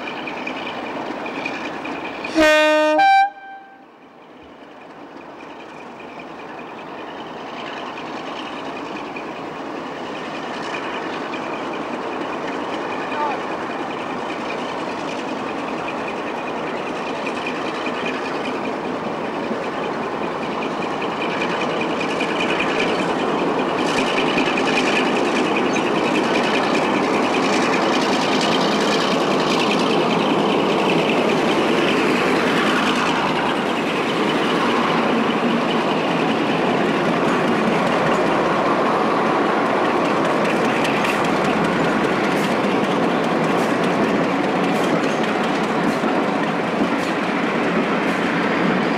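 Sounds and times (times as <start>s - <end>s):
diesel locomotive engine: 0.0s - 48.9s
wheels clicking over rail joints: 4.4s - 48.9s.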